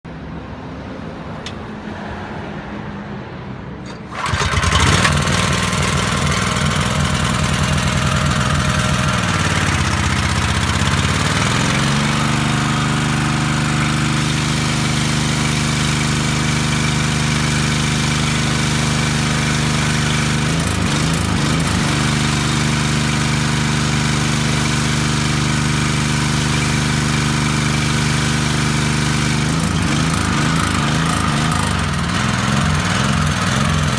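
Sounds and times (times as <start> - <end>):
pressure washer engine running: 3.8 - 33.9.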